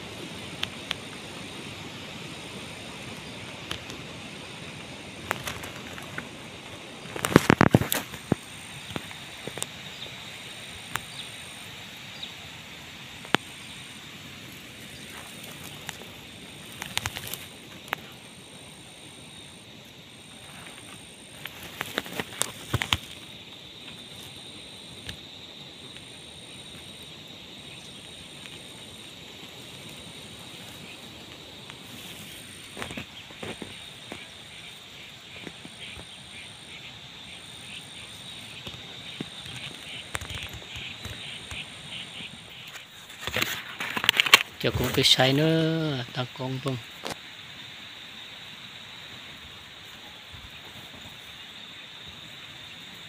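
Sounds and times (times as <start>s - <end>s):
insects calling: 0.0s - 53.0s
dry grass crackling: 0.2s - 11.7s, 12.4s - 45.9s.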